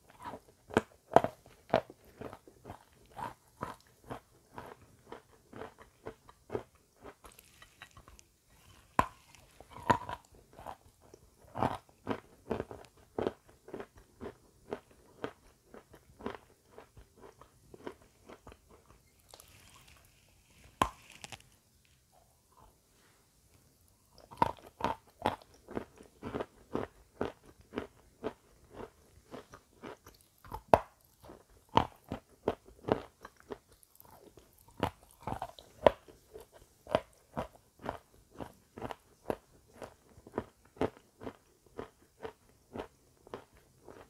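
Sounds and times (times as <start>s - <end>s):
crunching and chewing snack: 0.0s - 22.8s, 24.1s - 44.0s.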